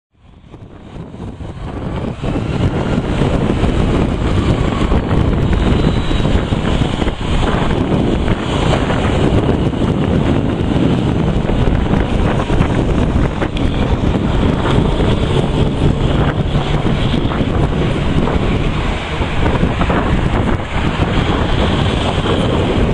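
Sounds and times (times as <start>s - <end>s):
loud wind over microphone: 0.1s - 22.9s.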